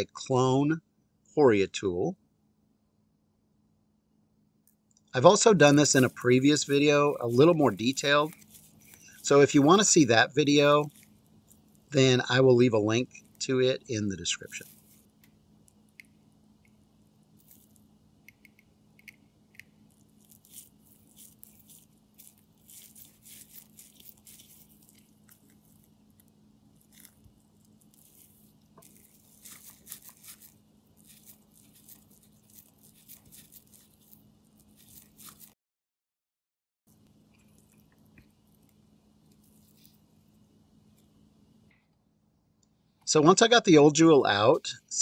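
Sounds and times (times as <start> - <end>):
low steady hum: 0.0 - 35.6, 36.9 - 45.0.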